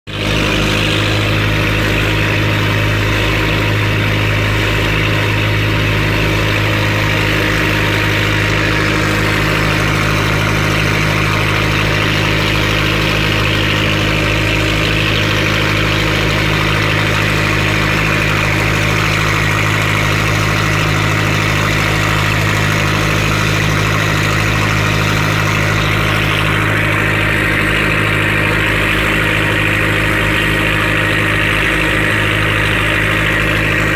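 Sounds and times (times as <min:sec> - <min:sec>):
engine running steadily: 0:00.0 - 0:33.9.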